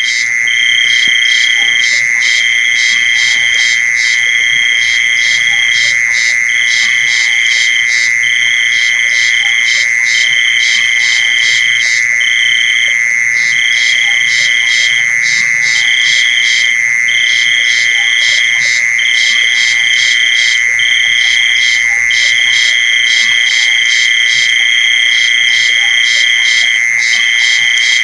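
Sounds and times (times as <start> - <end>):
insect call with rapid pulses: 0.0 - 28.0
steady high insect trill: 0.0 - 28.0.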